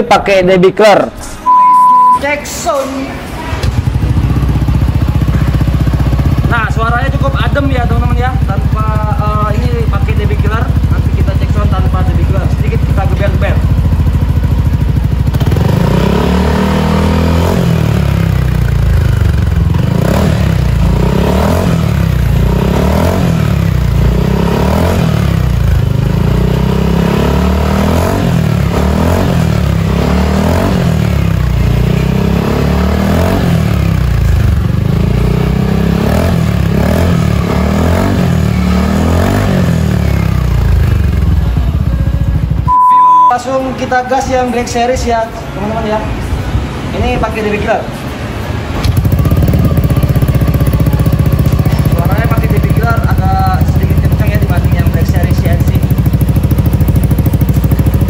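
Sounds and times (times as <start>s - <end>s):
scooter engine revving: 3.2s - 43.2s, 48.0s - 58.0s.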